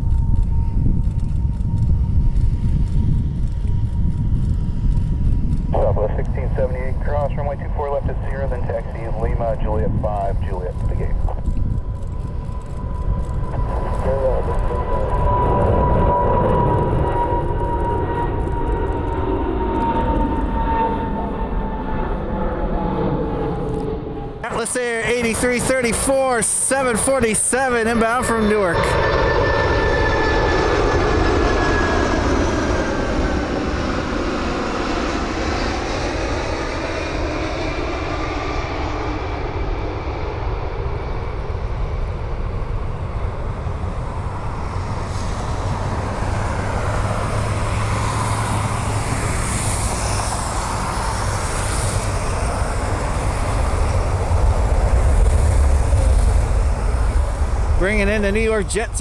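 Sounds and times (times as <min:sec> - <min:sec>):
jet engines whining: 0:00.0 - 0:59.0
jet rolling rumble: 0:00.0 - 0:59.0.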